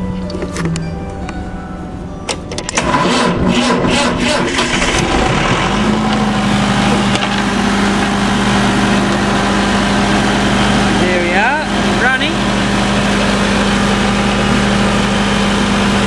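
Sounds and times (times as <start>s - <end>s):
diesel generator cranking and running: 0.0s - 16.0s.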